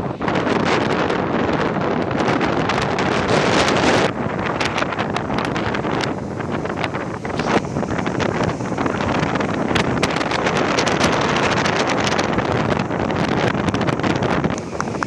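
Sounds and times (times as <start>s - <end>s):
surf breaking: 0.0s - 15.0s
wind buffeting microphone: 0.0s - 15.0s.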